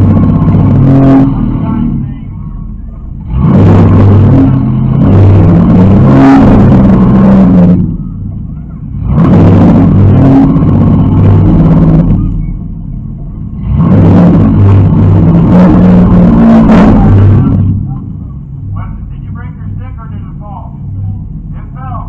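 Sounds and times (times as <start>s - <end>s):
car engine revving hard: 0.0s - 21.8s.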